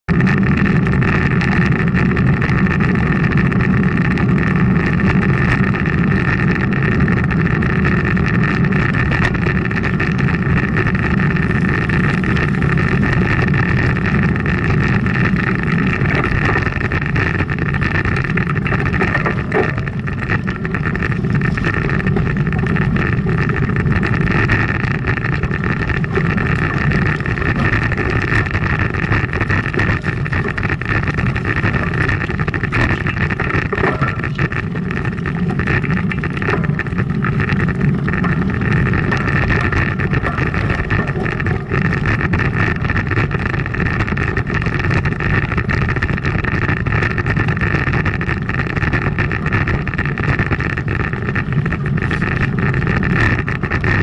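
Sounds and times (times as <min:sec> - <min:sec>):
wind on microphone: 0:00.0 - 0:54.0
bike tyres rattling on gravel: 0:00.1 - 0:54.0.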